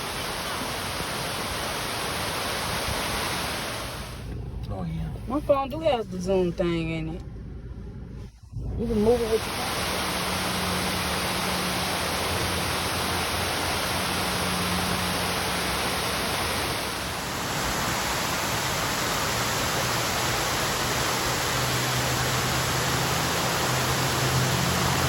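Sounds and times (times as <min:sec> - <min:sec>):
waterfall rushing: 0:00.0 - 0:04.2, 0:09.0 - 0:25.0.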